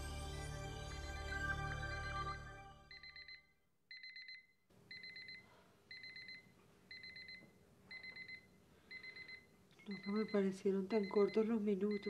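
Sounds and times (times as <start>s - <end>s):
alarm clock beeping: 0.9s - 12.0s.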